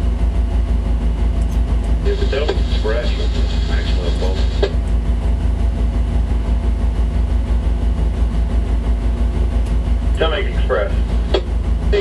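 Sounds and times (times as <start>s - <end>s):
diesel engines droning: 0.0s - 12.0s.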